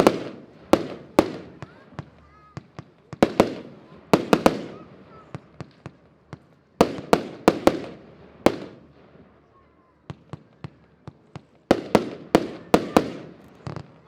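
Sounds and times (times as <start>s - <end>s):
fireworks popping: 0.0s - 9.4s, 10.0s - 14.0s
fireworks bangs with echo: 0.0s - 14.0s.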